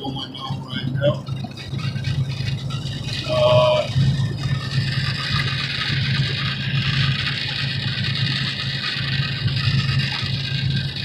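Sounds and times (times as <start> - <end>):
diesel truck engine running: 0.0 - 11.0
road and cab noise hiss: 0.0 - 11.0.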